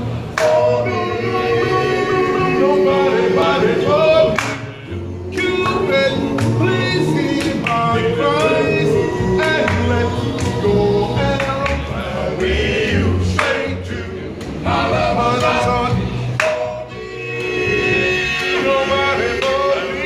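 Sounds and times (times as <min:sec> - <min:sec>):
men singing in harmony: 0:00.3 - 0:20.0.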